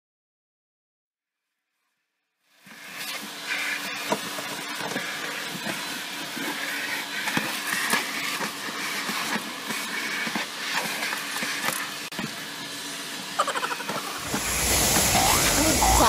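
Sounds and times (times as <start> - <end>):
vacuum running: 2.7 - 16.0.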